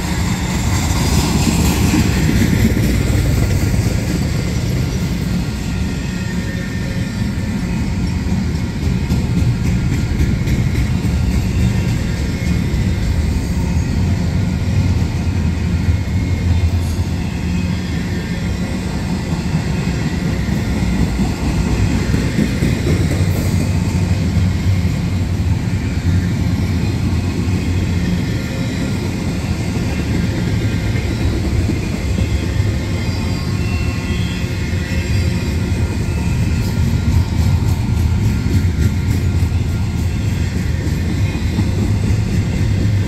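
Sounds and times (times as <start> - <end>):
steel wheels rumbling on rails: 0.0 - 43.0.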